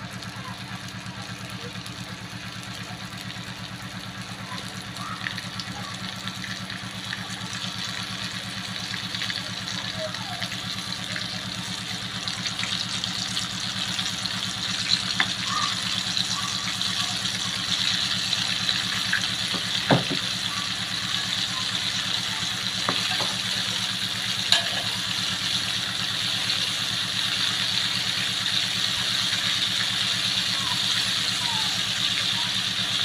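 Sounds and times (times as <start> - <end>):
deep-frying sizzle with pops: 0.0 - 33.0.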